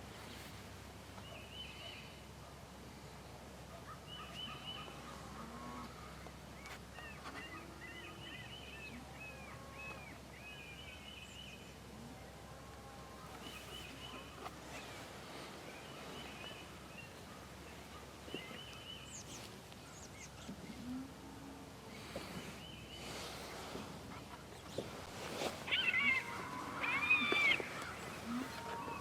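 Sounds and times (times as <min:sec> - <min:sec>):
faint bird-like calls: 0:03.1 - 0:29.0.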